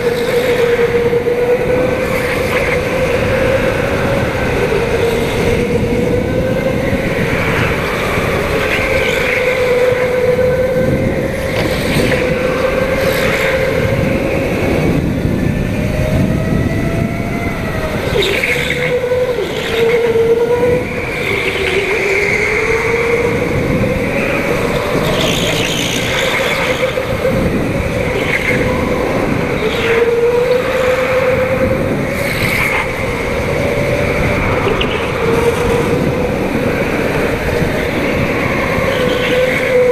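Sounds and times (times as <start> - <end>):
go-kart engine running hard: 0.0 - 39.9
high squealing tones: 0.0 - 39.9.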